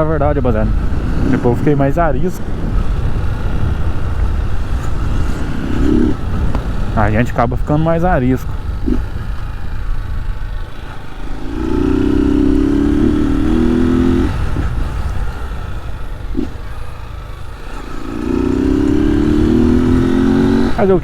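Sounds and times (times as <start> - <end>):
low wind rumble: 0.0 - 21.0
motorcycle engine revving: 0.0 - 21.0.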